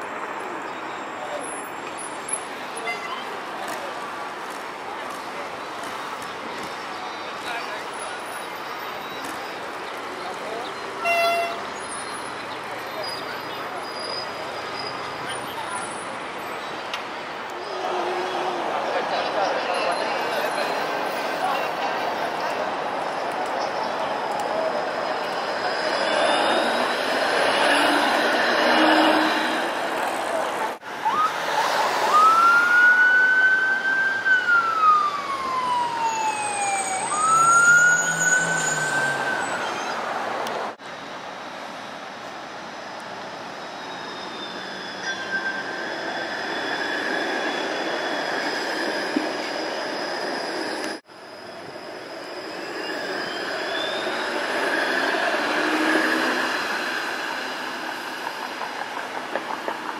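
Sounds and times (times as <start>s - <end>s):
streetcar running on tracks: 0.0s - 59.9s.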